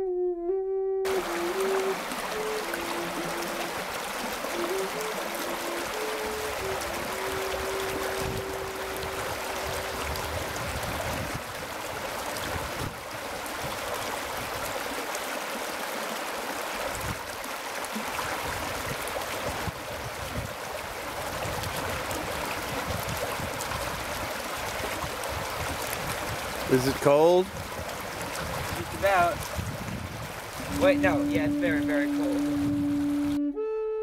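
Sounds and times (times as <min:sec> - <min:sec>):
spring water babbling over rocks: 0:01.1 - 0:33.2.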